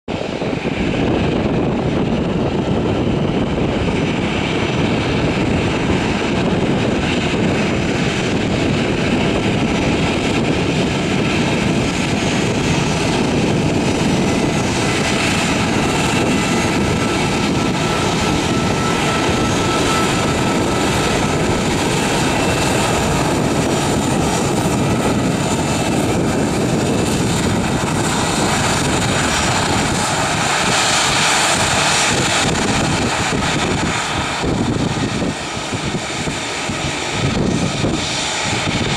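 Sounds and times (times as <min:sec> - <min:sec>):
jet engines rushing and whining: 0:00.0 - 0:38.9.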